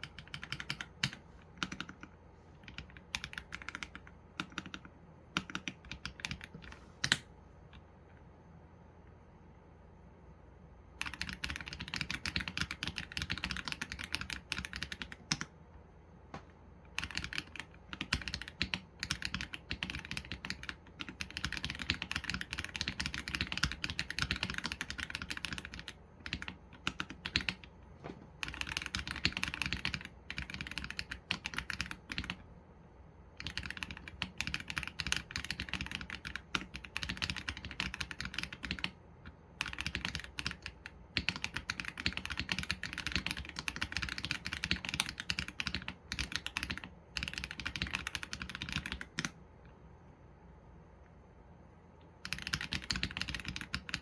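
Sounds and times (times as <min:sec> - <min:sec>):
mechanical keyboard typing: 0:00.0 - 0:07.8, 0:10.9 - 0:15.6, 0:16.8 - 0:32.5, 0:33.4 - 0:49.4, 0:52.2 - 0:54.0.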